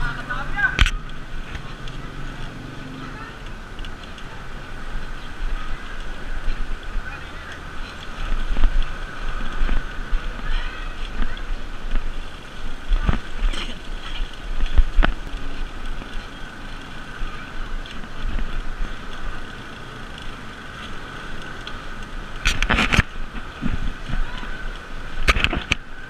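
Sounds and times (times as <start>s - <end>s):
bicycle rumbling on dirt road: 0.0s - 26.0s
loud bicycle clatter: 0.0s - 26.0s.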